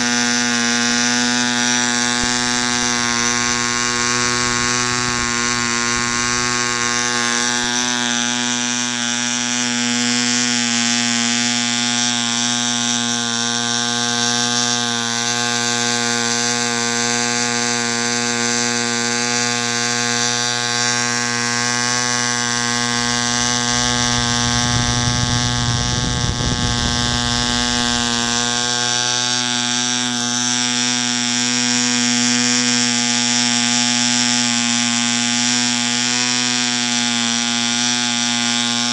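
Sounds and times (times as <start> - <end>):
model engine buzzing: 0.0 - 38.9.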